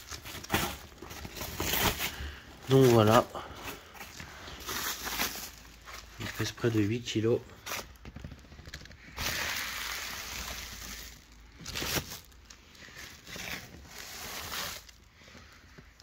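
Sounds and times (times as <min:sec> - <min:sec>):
foam wrap crinkling: 0:00.0 - 0:16.0.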